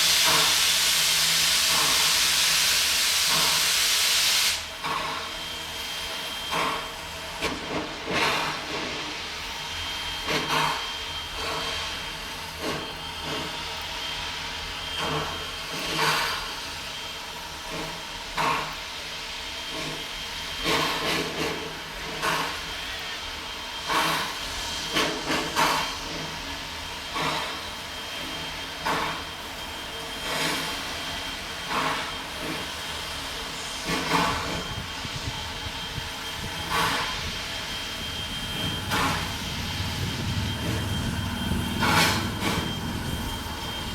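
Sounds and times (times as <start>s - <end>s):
steam hiss: 0.0s - 43.9s
steam locomotives chuffing: 0.0s - 43.9s.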